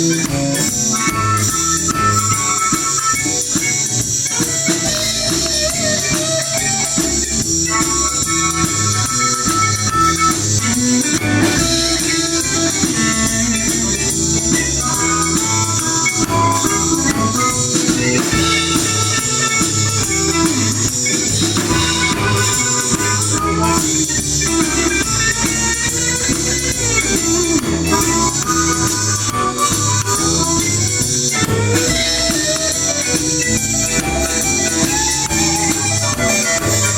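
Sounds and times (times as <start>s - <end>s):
blues guitar: 0.0s - 36.9s
steady drum beat: 0.0s - 36.9s.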